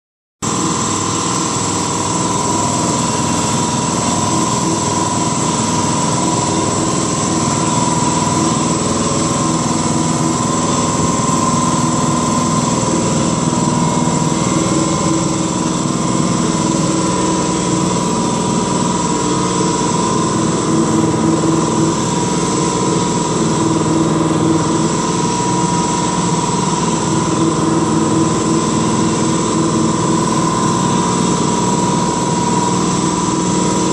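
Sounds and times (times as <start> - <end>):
orbital sander whining: 0.5 - 33.9.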